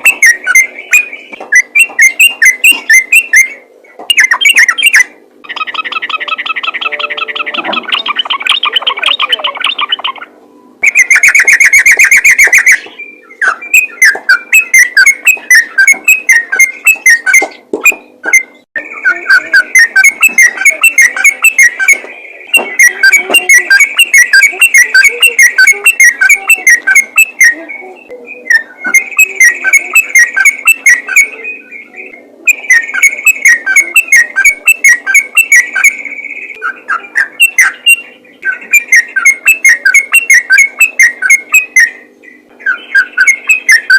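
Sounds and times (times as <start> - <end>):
bird singing chattering notes: 0.0 - 43.9.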